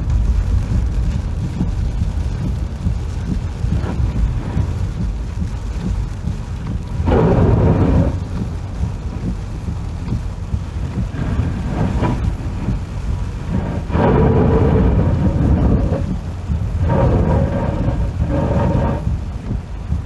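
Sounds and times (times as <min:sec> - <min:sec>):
heavy rain: 0:00.0 - 0:20.0
typhoon wind: 0:00.0 - 0:20.0.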